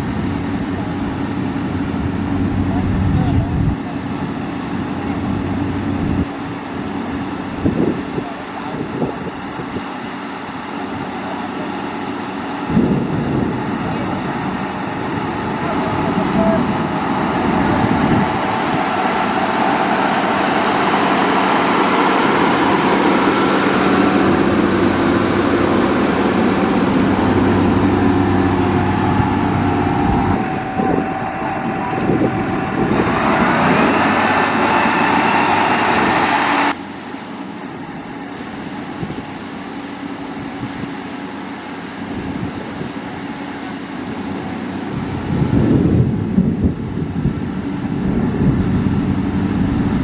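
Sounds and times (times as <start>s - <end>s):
diesel engine running under load: 0.0s - 50.0s.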